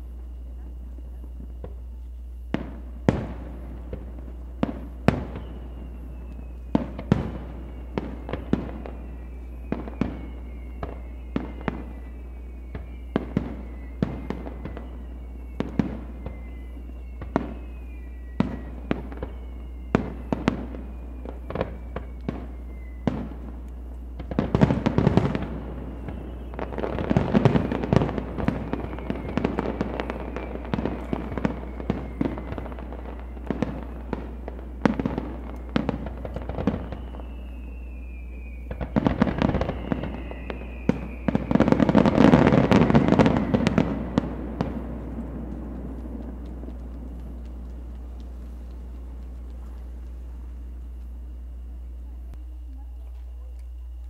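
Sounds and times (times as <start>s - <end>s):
fireworks bangs: 0.0s - 54.0s
fireworks dense crackling: 0.0s - 54.0s
fireworks falling whistles: 0.0s - 54.0s.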